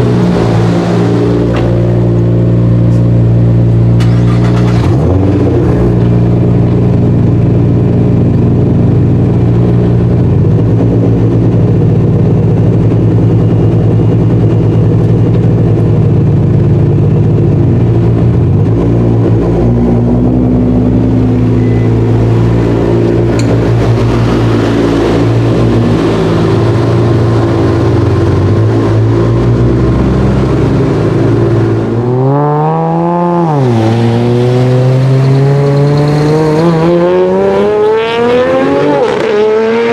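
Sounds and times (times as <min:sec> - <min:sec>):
car engine revving: 0:00.0 - 0:39.9
car engine running loud: 0:00.0 - 0:39.9.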